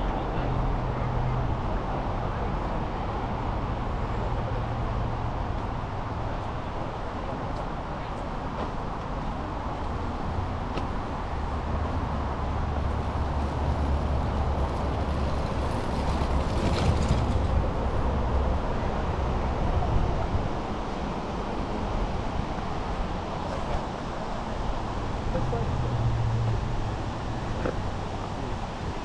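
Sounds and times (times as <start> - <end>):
vehicle road noise rumble: 0.0 - 29.0.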